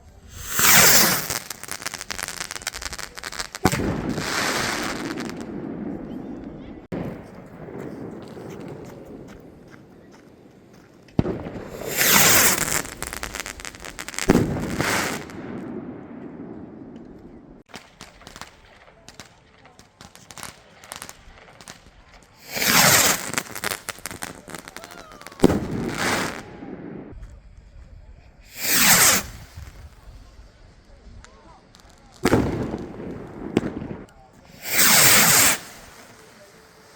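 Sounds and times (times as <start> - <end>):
firework rushing hisses: 0.0 - 7.0, 11.2 - 18.5, 20.3 - 27.2, 28.4 - 36.9
firework bangs: 0.0 - 27.4, 28.4 - 36.9.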